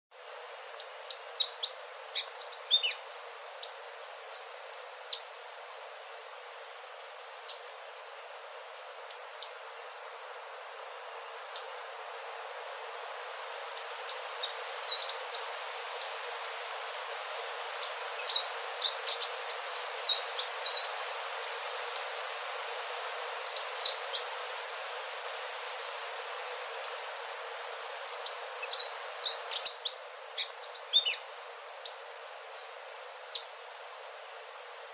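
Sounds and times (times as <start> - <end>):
steady hiss: 0.1 - 34.9.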